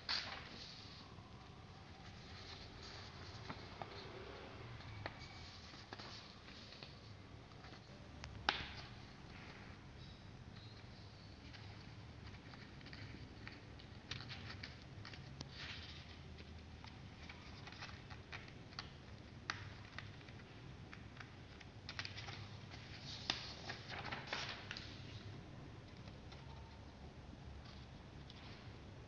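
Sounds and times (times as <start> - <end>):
paper rustling and crinkling: 0.0 - 9.8, 10.6 - 25.3.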